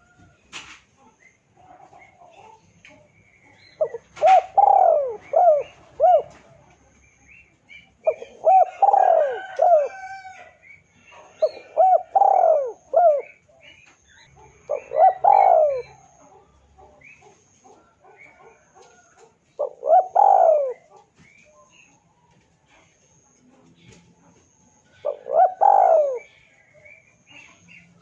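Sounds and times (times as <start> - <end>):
dove cooing: 1.0 - 6.8, 7.8 - 21.9, 24.5 - 27.6.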